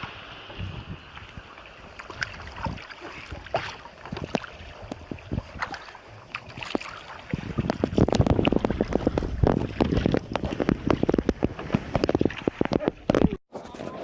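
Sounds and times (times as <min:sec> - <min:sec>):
paddles splashing in water: 0:00.0 - 0:13.4.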